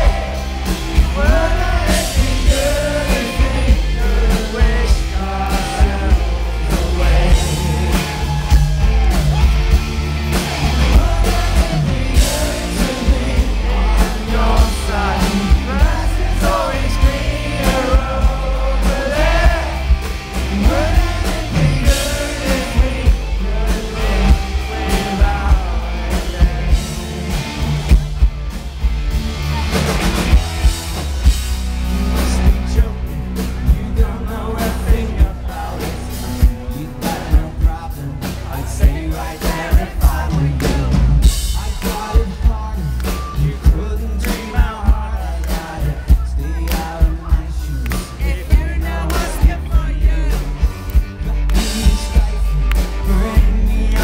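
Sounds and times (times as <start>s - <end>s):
male lead vocal: 0.0s - 28.1s, 31.2s - 54.0s
live pop-rock band: 0.0s - 54.0s.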